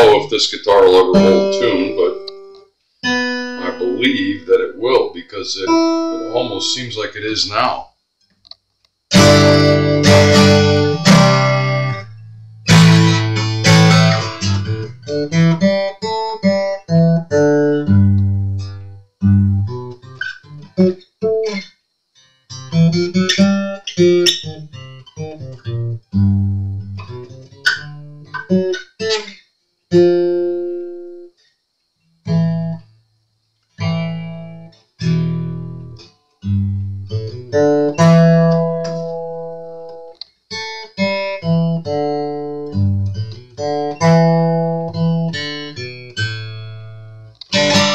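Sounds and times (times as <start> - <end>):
acoustic guitar playing: 0.0 - 7.4, 9.1 - 31.5, 32.1 - 33.0, 33.7 - 47.9.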